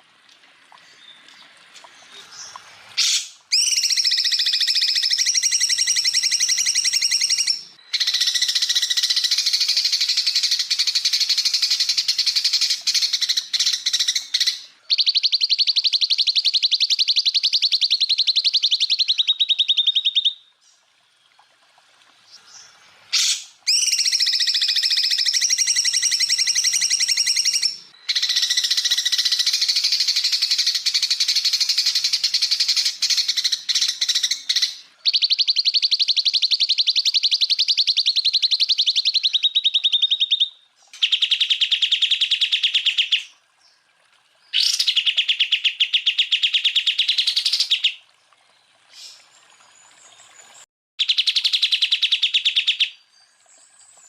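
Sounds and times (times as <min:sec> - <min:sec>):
bird trilling song: 0:02.0 - 0:20.8, 0:22.3 - 0:43.3, 0:44.5 - 0:48.0, 0:51.0 - 0:53.9.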